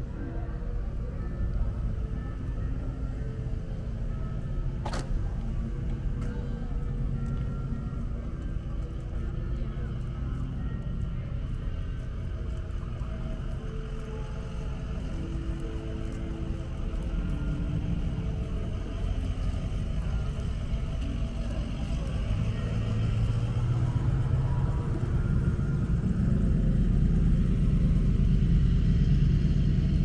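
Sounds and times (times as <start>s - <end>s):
low hum: 0.0s - 30.0s
vehicle engine rumble: 0.0s - 30.0s.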